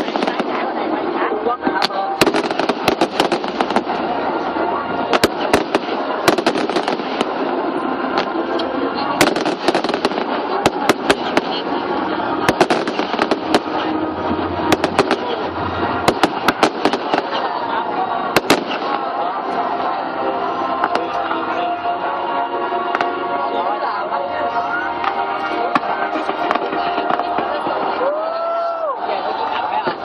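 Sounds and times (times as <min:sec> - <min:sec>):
fireworks cracking and banging: 0:00.0 - 0:23.4, 0:24.9 - 0:30.0
crowd noise: 0:00.0 - 0:30.0.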